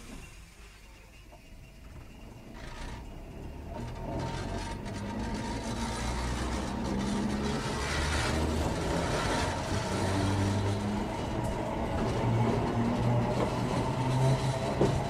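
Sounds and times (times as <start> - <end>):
train motor and gear hum: 0.0 - 15.0
train running noise: 0.0 - 15.0.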